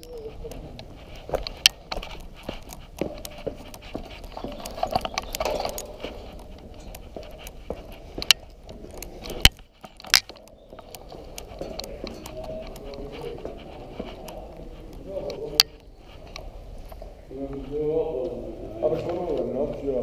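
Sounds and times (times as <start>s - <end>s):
footsteps on metal stairs: 0.0s - 17.2s.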